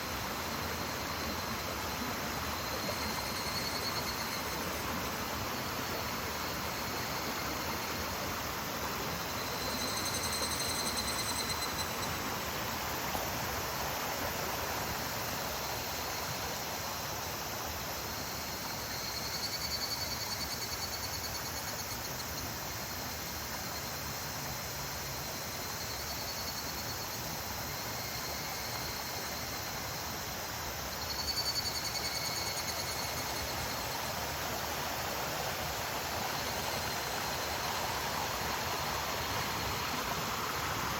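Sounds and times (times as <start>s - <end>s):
cicadas calling: 0.0s - 40.9s
mountain stream running: 0.0s - 40.9s.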